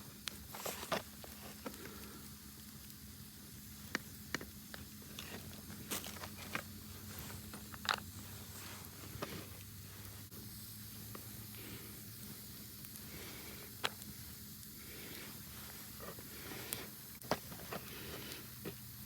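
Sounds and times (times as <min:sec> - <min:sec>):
campfire hissing: 0:00.0 - 0:19.0
fire crackles: 0:00.0 - 0:19.0.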